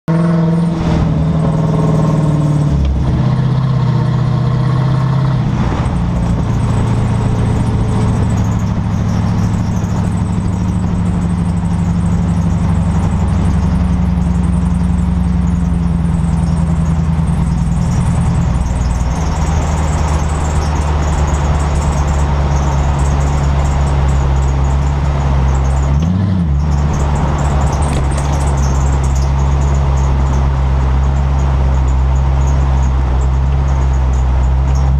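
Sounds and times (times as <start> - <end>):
low drivetrain and road drone: 0.0 - 34.9
rear end squeal: 0.3 - 34.9.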